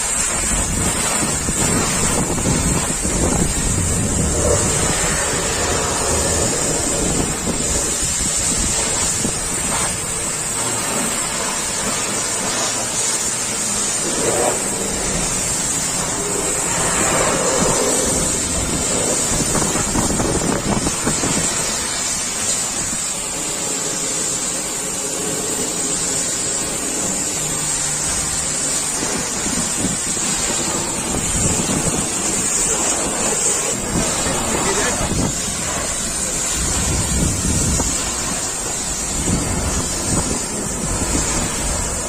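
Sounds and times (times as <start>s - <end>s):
pressure washer jet hissing: 0.0s - 42.0s
water spray splashing: 0.0s - 42.0s.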